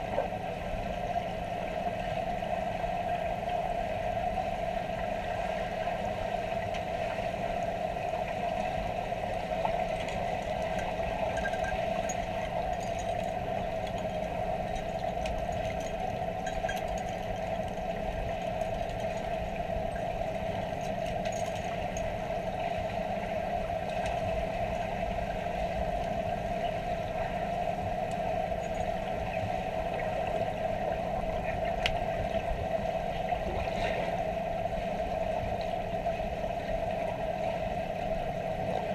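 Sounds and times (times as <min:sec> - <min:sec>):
underwater machine hum: 0:00.0 - 0:38.9.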